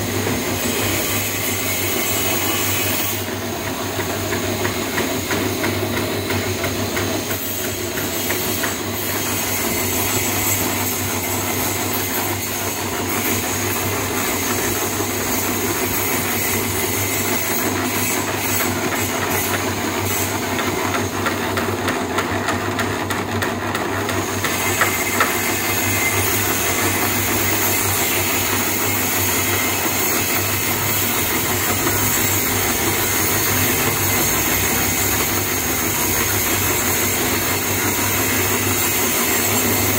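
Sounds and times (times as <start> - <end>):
concrete mixer running: 0.0 - 39.9.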